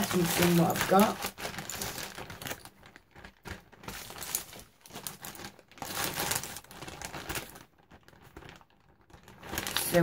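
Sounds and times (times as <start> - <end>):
bag crinkling and rustling: 0.0 - 10.0.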